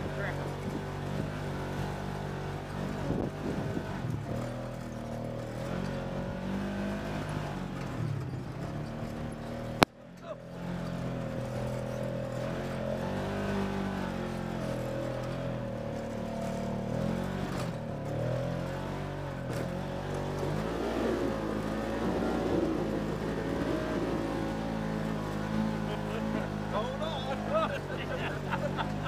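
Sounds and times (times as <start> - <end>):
off-road vehicle engine under load: 0.0 - 29.0.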